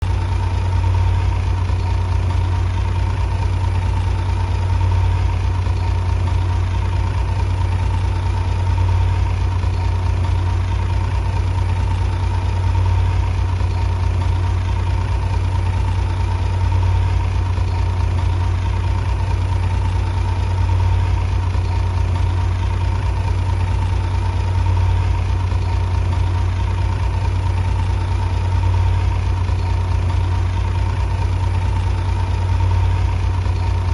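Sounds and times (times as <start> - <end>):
bulldozer diesel engine droning: 0.0 - 33.9.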